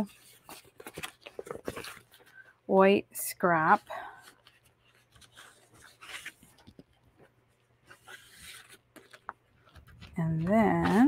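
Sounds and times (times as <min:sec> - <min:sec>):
paper rustling: 0:00.0 - 0:02.5, 0:03.7 - 0:11.0.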